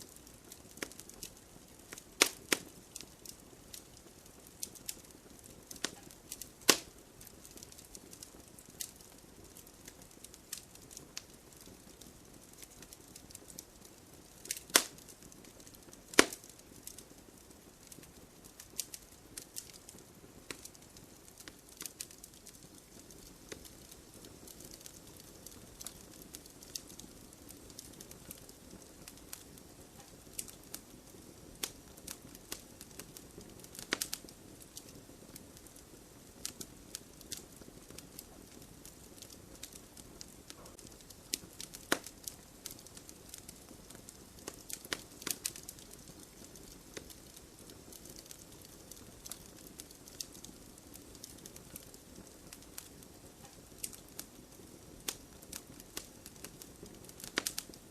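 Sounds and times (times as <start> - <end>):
firewood crackling and popping: 0.0 - 57.9.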